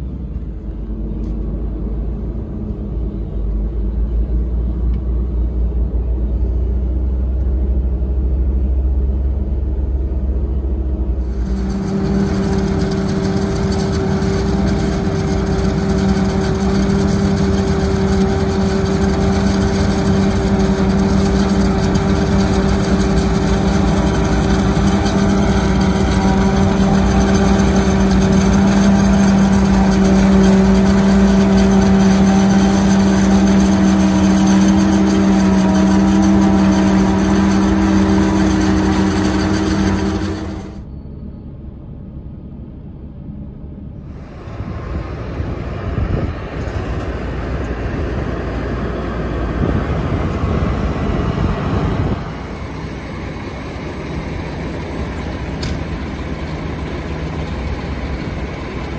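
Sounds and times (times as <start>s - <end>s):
diesel farm machinery running: 0.0s - 58.9s.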